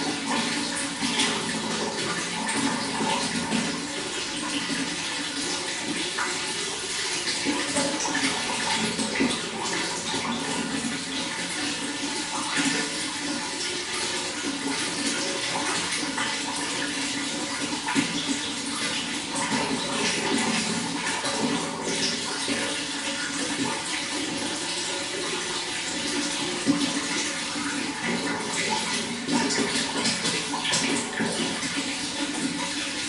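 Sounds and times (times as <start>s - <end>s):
running water flowing: 0.0s - 33.0s.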